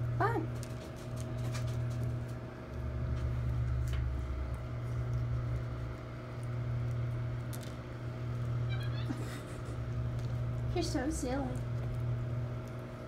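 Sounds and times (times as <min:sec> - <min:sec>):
household appliance humming: 0:00.0 - 0:13.0.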